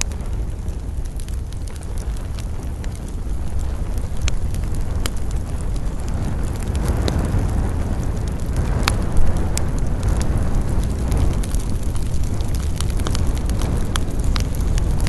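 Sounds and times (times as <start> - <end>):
campfire crackling: 0.0 - 15.0
steady low rumble: 0.0 - 15.0.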